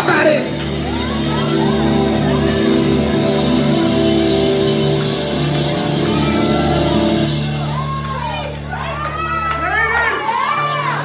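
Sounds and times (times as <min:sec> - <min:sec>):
live gospel band playing: 0:00.0 - 0:11.0.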